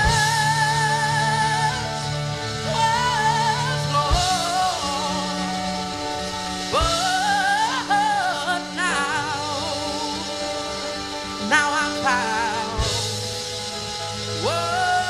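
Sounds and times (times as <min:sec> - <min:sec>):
held instrumental chords: 0:00.0 - 0:15.0
person singing gospel: 0:00.0 - 0:15.0.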